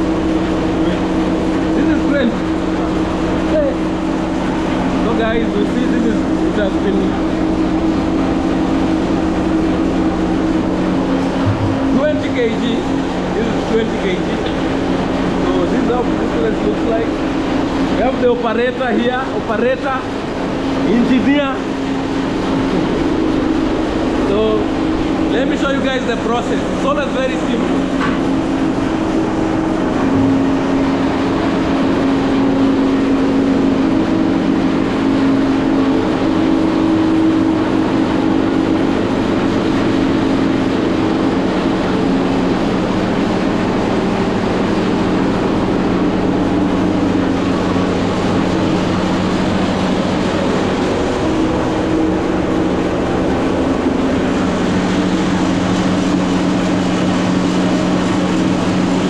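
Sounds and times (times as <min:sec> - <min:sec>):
grinding mill running: 0:00.0 - 0:59.0.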